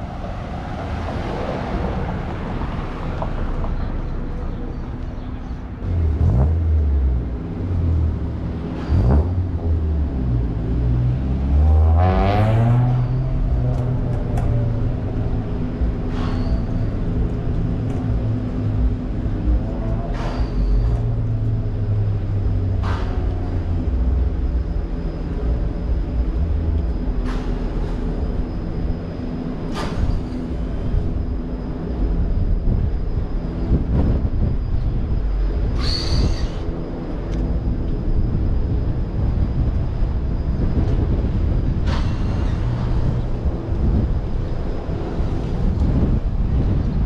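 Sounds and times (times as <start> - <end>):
heavy vehicle engine rumbling: 0.0 - 47.0.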